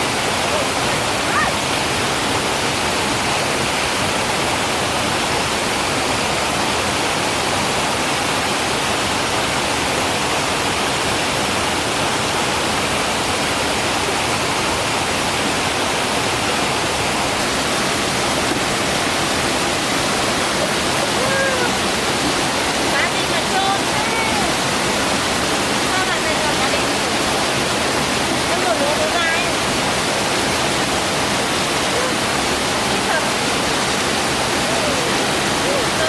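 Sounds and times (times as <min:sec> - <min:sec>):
waterfall rushing water: 0:00.0 - 0:36.0.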